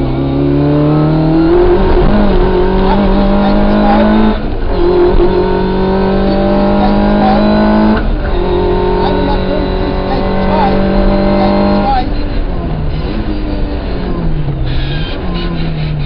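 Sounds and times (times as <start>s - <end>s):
rally car engine revving high: 0.0s - 16.0s.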